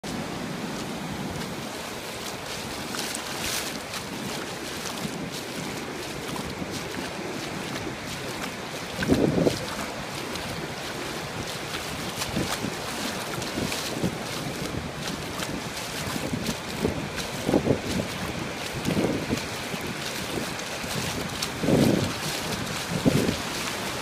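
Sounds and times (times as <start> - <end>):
ocean surf washing on beach: 0.0 - 24.0
wind on microphone: 0.1 - 24.0.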